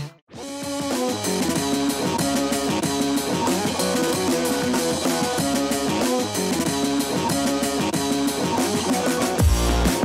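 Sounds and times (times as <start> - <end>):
music with guitar and drums: 0.0 - 10.0.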